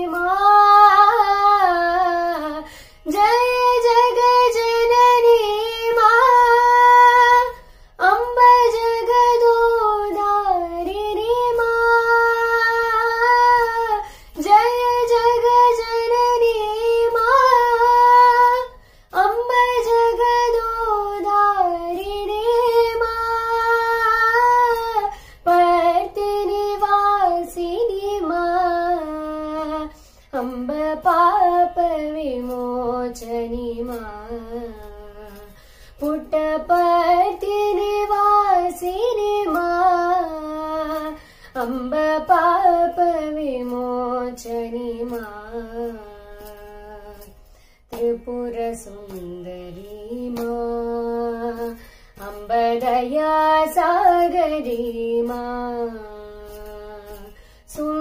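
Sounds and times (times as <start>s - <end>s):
woman singing: 0.0s - 58.0s.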